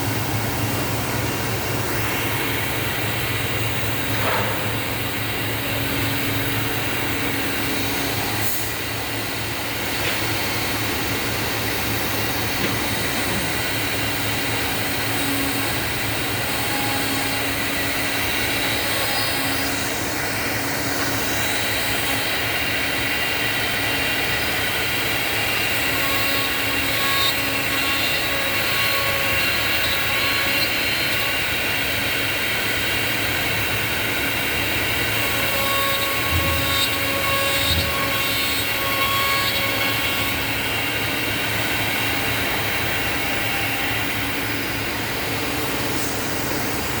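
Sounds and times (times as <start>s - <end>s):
machine whine: 0.0s - 47.0s.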